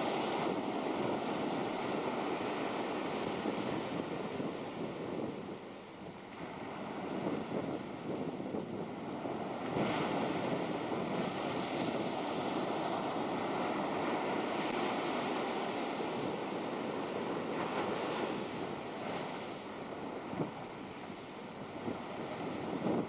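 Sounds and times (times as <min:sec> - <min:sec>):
ocean surf breaking: 0:00.0 - 0:05.3, 0:06.4 - 0:23.0
wind buffeting microphone: 0:00.0 - 0:23.0.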